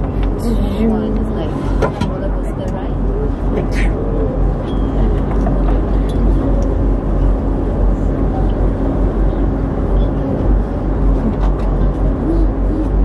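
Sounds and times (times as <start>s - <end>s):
faint hum: 0.0s - 13.0s
funicular wheels rumbling on rails: 0.0s - 13.0s.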